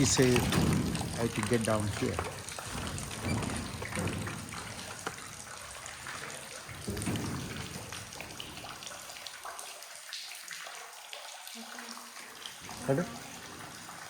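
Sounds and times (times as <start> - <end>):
water dripping in a cave: 0.0 - 14.0.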